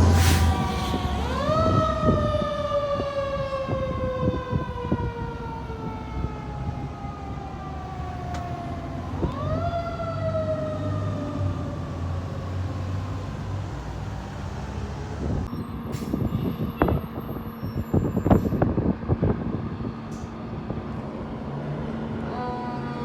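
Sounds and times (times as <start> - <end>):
fire truck siren wailing: 0.0 - 23.0
heavy engine rumbling: 0.0 - 23.0.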